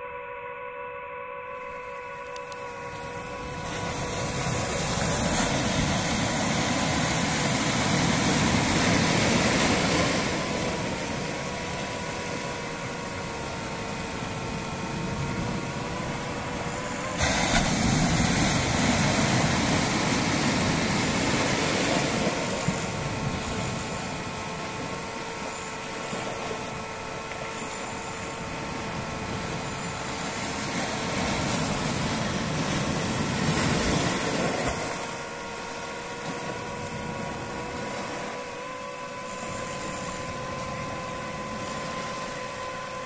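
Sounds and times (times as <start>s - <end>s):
drone motors whining: 0.0s - 43.0s
wind noise: 2.2s - 43.0s.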